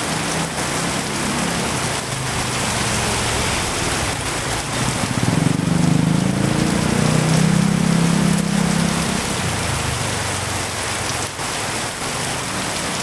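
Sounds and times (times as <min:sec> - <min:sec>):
heavy rain pouring: 0:00.0 - 0:13.0
passing vehicle engine drone: 0:00.1 - 0:11.1.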